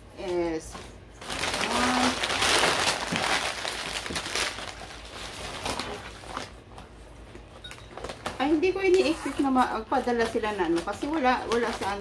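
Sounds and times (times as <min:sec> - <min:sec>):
paper crumpling and rustling: 0:00.3 - 0:12.0.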